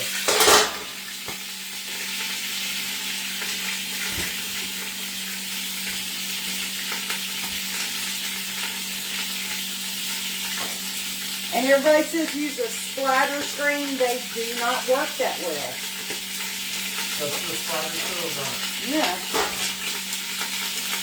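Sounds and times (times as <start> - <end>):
meat sizzling in a pan: 0.0 - 21.0.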